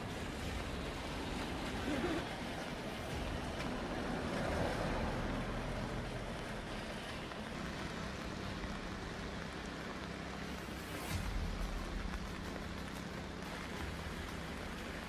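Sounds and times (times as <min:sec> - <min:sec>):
rain: 0:00.0 - 0:15.0
river rushing: 0:00.0 - 0:15.0.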